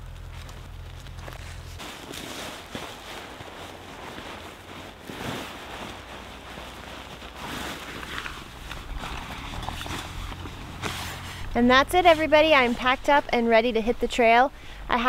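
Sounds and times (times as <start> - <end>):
tent fabric rustling: 0.0 - 15.0.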